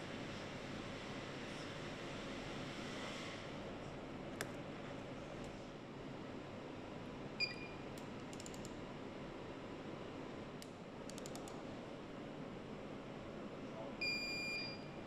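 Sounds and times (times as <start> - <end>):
factory hall hum: 0.0 - 15.0.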